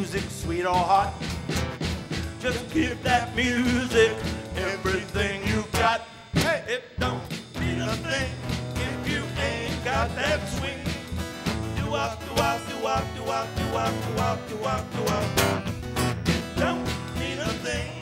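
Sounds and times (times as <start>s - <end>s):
drums: 0.0s - 18.0s
strummed acoustic guitar: 0.0s - 18.0s.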